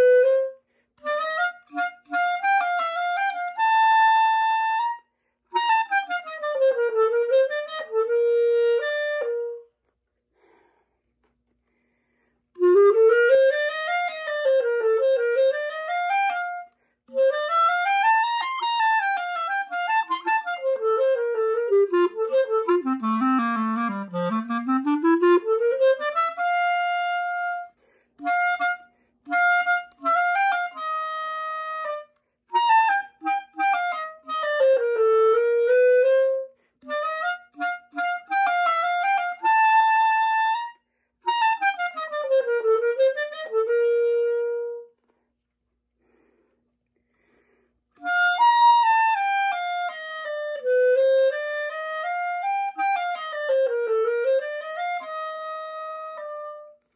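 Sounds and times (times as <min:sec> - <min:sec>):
solo instrument melody: 0:00.0 - 0:10.6, 0:12.5 - 0:45.3, 0:47.9 - 0:56.9.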